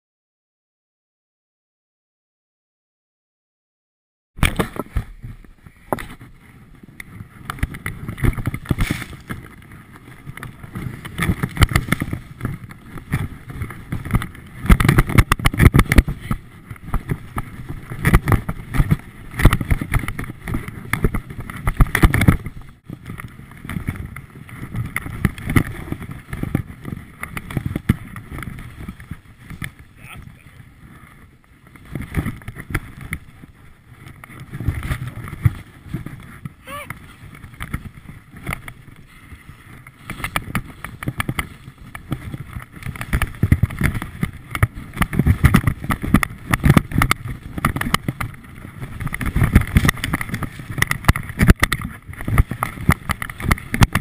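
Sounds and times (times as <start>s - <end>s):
skis scraping over snow: 4.4s - 54.0s
wind buffeting microphone: 4.4s - 54.0s.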